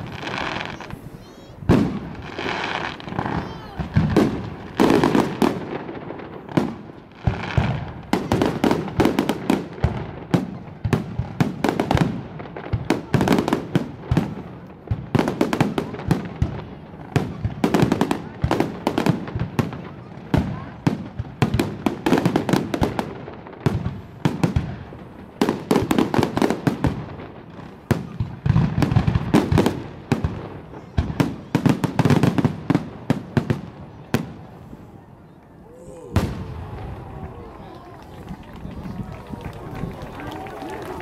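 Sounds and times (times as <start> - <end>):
fireworks bangs and crackling: 0.0 - 41.0.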